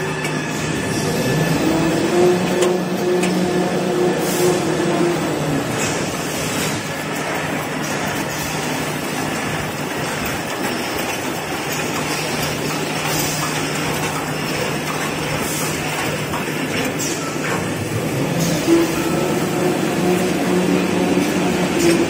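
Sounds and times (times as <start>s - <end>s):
production line machinery hum: 0.0s - 22.0s.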